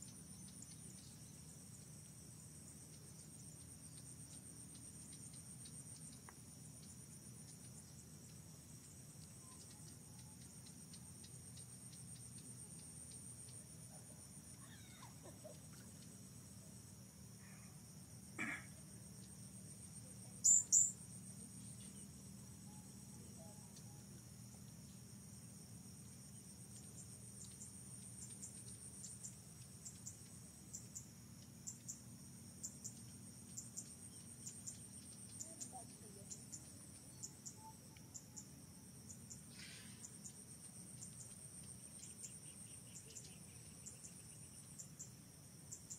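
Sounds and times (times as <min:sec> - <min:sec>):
insects droning: 0:00.0 - 0:45.9
loud sharp insect chirps: 0:00.0 - 0:45.9
short high insect chirps: 0:02.9 - 0:16.6, 0:18.4 - 0:25.0, 0:26.3 - 0:45.9.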